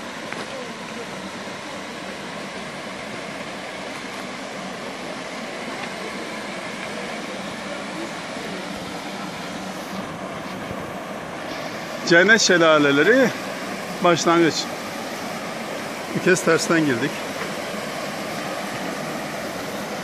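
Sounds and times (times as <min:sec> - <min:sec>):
stream rushing down rocky cascade: 0:00.0 - 0:20.0.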